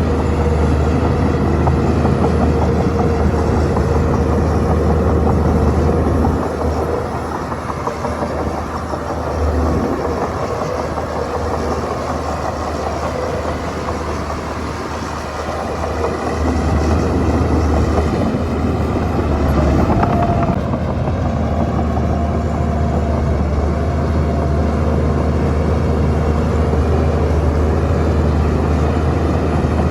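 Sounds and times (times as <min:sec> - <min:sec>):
bulldozer diesel engine droning: 0:00.0 - 0:29.9.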